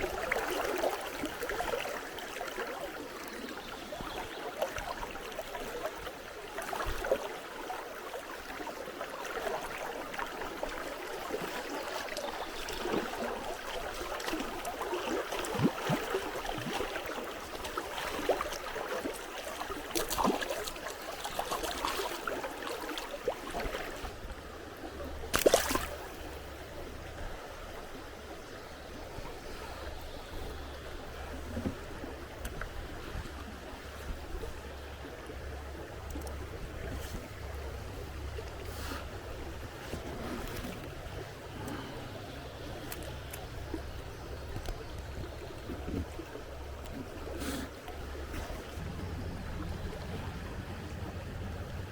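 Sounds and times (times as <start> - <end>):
river water gurgling: 0.0 - 51.9.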